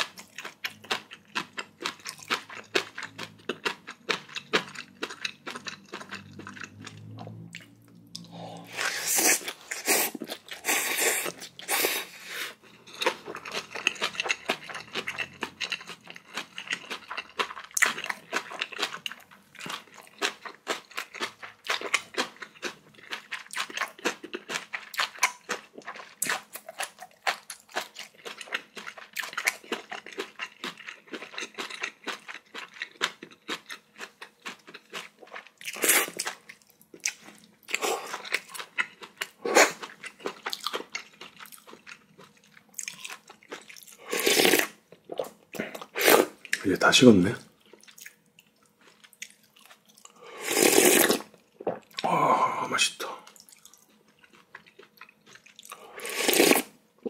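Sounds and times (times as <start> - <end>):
close chewing and crunching: 0.0 - 56.8.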